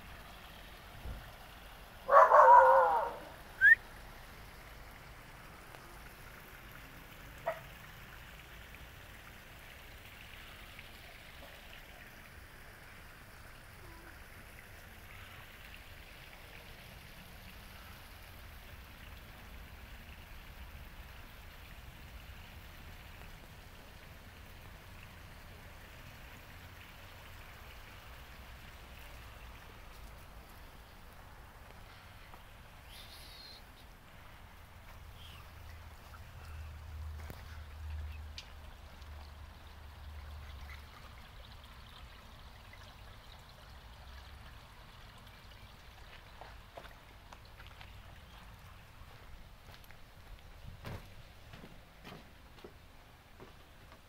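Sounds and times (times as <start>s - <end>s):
small waterfall trickling: 0.0s - 54.0s.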